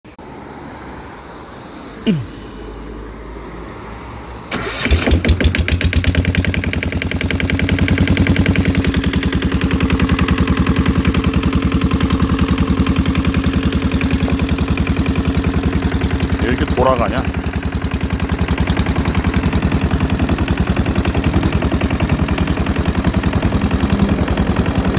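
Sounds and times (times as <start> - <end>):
diesel engine running: 4.5 - 24.9.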